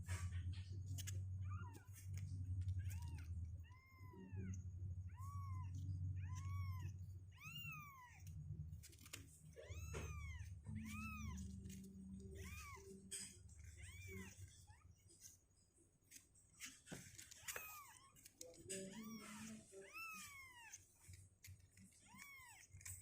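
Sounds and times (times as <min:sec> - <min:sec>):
kittens mewing: 0:01.0 - 0:15.2, 0:17.2 - 0:23.0.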